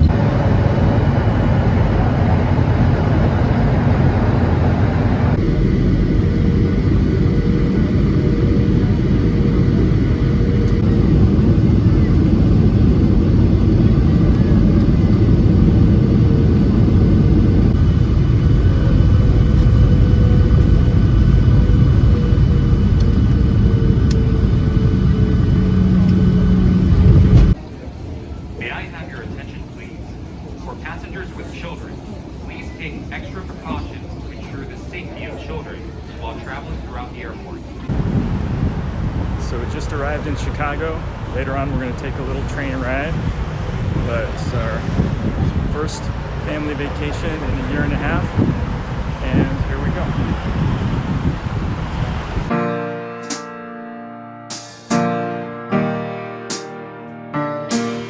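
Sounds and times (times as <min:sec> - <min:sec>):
airliner cabin engine rumble: 0:00.0 - 0:53.4.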